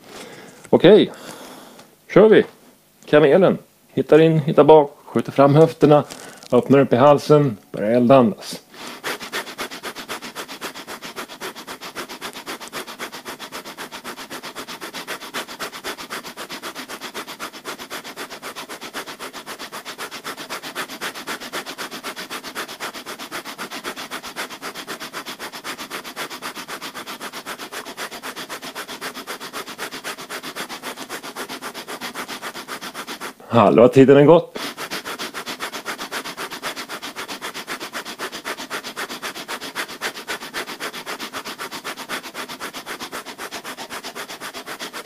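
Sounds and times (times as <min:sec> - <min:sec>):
man breathing rapidly through nose: 0:00.0 - 0:01.9, 0:05.8 - 0:06.6, 0:08.5 - 0:33.7, 0:34.5 - 0:45.0.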